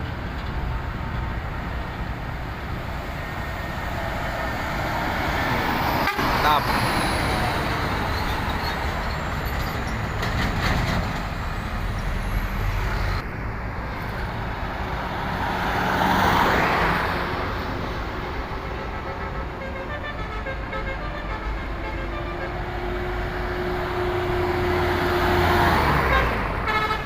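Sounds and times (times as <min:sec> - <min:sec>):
truck engines running: 0:00.0 - 0:27.0
tyre and road noise: 0:00.0 - 0:27.0.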